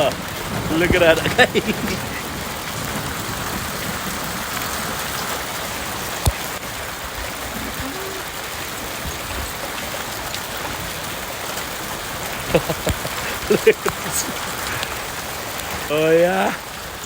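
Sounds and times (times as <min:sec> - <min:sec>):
hailstones pelting down: 0:00.0 - 0:17.0.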